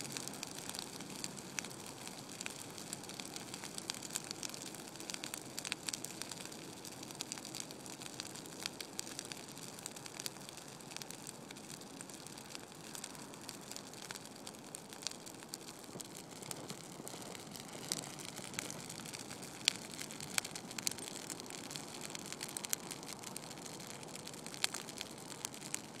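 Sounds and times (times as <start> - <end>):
fire burning with crackles: 0.0 - 26.0.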